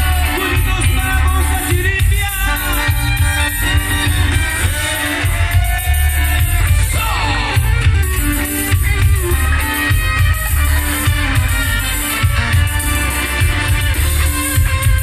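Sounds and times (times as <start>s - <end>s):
band playing live through pa: 0.0s - 15.0s
pulsing bass beat: 0.0s - 15.0s.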